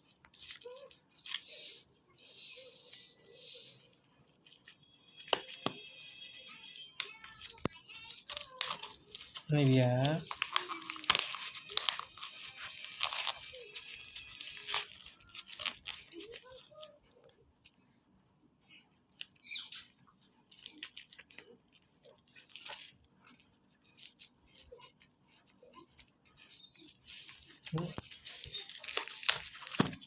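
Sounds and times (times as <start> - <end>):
wrapping crinkling and tearing: 0.0 - 1.7, 3.2 - 17.9, 19.1 - 30.0.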